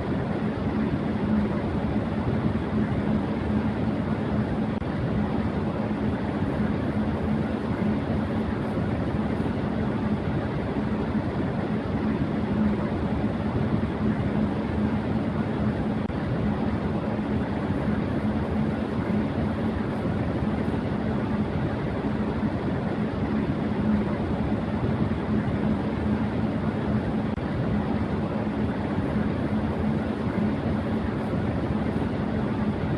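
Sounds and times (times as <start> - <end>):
electric fan running: 0.0 - 32.9.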